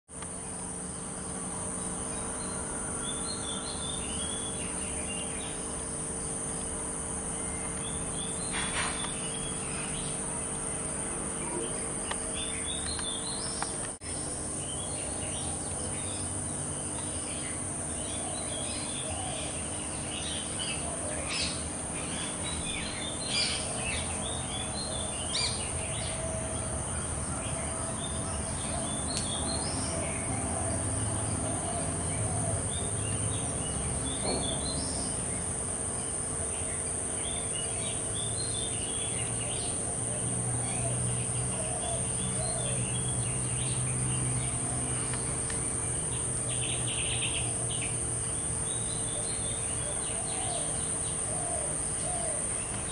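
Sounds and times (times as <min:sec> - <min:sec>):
birds chirping: 0:00.1 - 0:52.9
high-pitched insect drone: 0:00.1 - 0:52.9.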